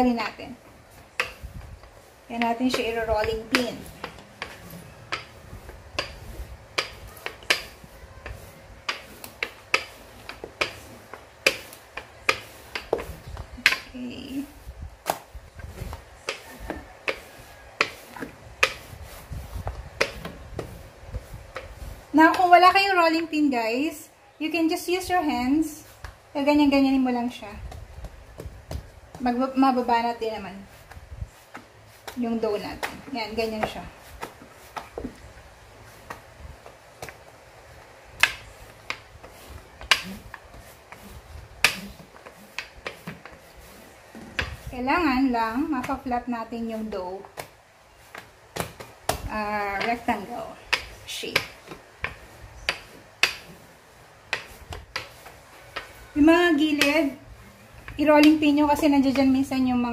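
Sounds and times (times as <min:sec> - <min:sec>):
rolling pin clicking: 0:00.9 - 0:22.8, 0:30.8 - 0:59.4.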